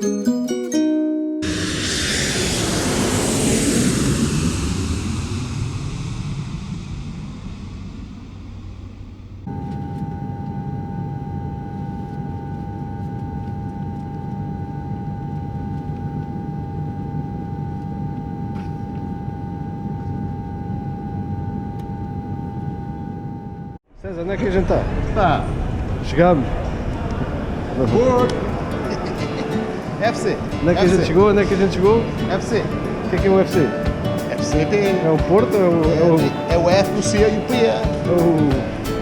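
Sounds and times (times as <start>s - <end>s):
jet engine drone: 1.4s - 23.8s, 24.7s - 39.0s
jet engine whine: 1.4s - 23.8s, 24.7s - 39.0s.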